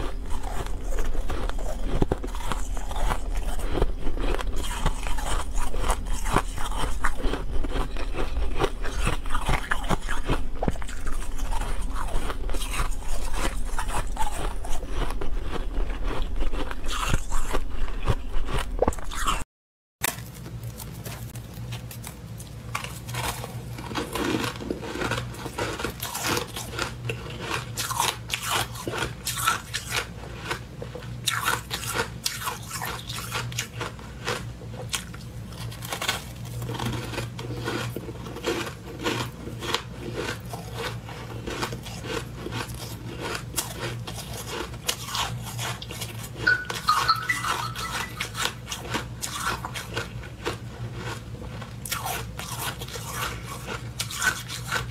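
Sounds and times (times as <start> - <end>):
frost crunching when chewed: 0.0 - 19.4, 20.0 - 54.9.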